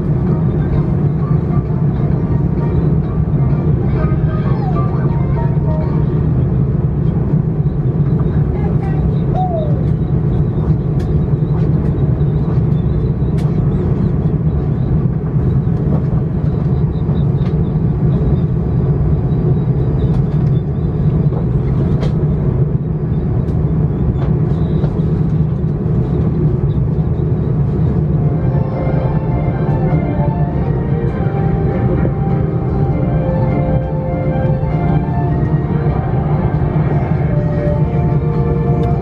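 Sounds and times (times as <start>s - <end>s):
low rumble of airliner cabin: 0.0s - 39.0s.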